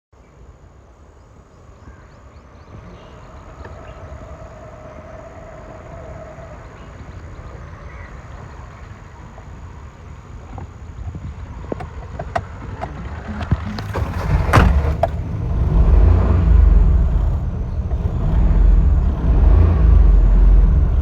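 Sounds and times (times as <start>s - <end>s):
car engine running: 2.8s - 21.0s.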